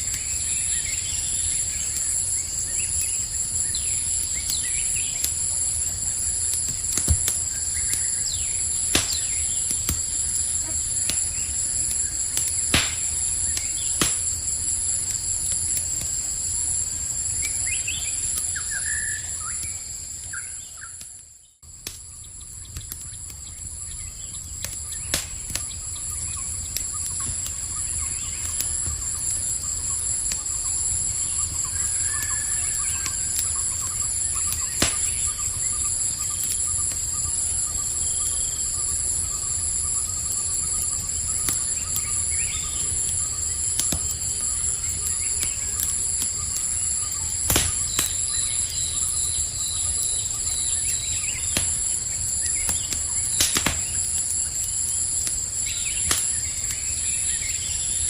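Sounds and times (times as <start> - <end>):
campfire crackling and popping: 0.0 - 58.0
faint chirps: 0.0 - 58.0
night insects chorus: 0.0 - 58.0.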